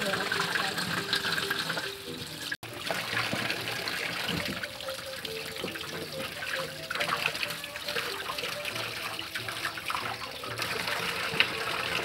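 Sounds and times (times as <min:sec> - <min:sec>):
water splashing in basin: 0:00.0 - 0:12.0.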